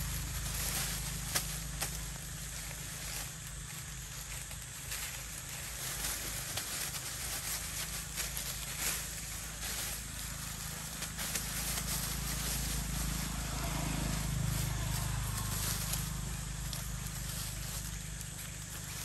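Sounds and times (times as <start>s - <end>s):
dry leaves rustling and crackling: 0.0s - 19.0s
steady low rumble: 0.0s - 19.0s.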